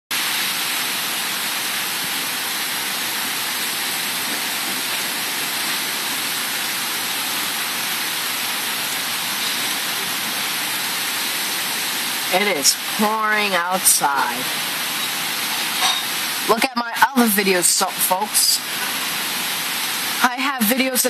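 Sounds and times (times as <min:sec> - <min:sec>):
heavy rain on trees: 0:00.1 - 0:21.0.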